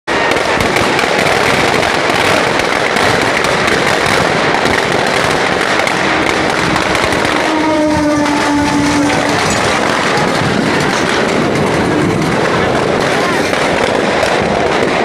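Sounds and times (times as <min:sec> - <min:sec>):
firecrackers crackling: 0:00.1 - 0:15.0.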